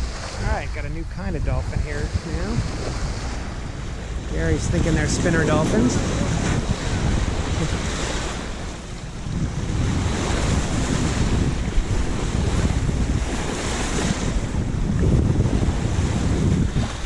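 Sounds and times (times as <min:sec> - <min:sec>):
sea water rushing: 0:00.0 - 0:17.0
wind buffeting microphone: 0:00.0 - 0:17.0.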